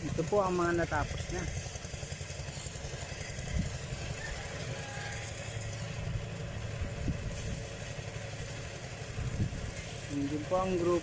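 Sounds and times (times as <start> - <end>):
thresher engine rumbling: 0.0 - 11.0.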